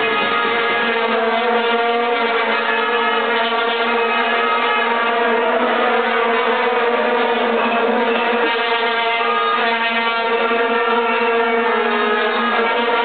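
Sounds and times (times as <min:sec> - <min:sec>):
vuvuzelas droning: 0:00.0 - 0:13.0.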